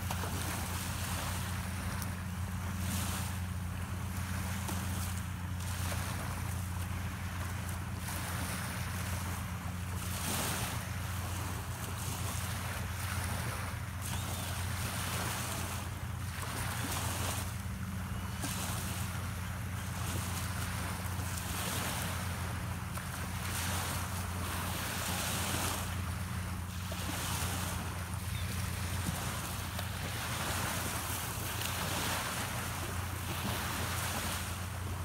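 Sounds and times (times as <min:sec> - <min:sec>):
small waves washing onto shore: 0:00.0 - 0:35.0
steady low hum: 0:00.0 - 0:35.0.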